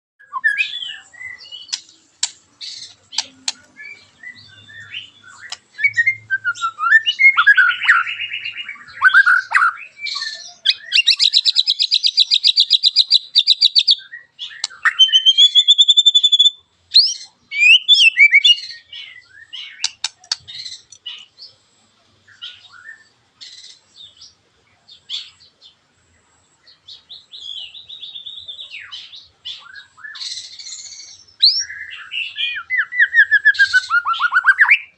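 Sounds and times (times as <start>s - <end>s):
bird singing chirps and whistles: 0.2s - 2.0s, 2.6s - 21.3s, 22.3s - 24.2s, 27.0s - 34.9s.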